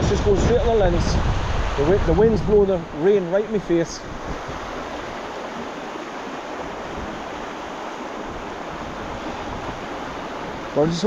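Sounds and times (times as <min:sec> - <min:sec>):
water rushing: 0:00.0 - 0:11.0
wind blowing: 0:00.0 - 0:11.0.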